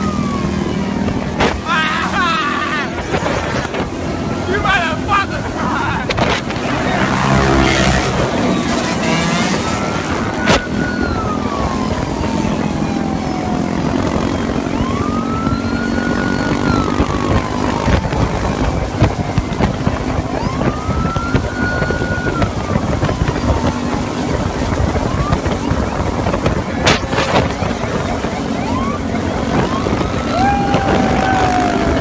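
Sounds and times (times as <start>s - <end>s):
engine hum: 0.0s - 32.0s
police siren wailing: 0.0s - 32.0s
wind on microphone: 0.0s - 32.0s.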